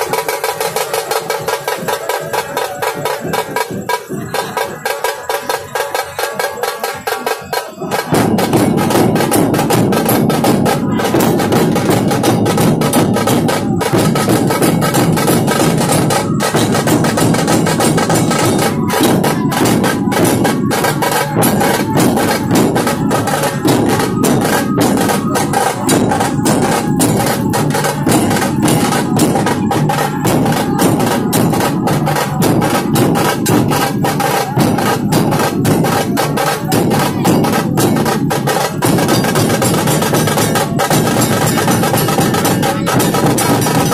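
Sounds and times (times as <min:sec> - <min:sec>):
fast dense drumming: 0:00.0 - 0:43.9
ringing metallic tones: 0:00.1 - 0:43.9.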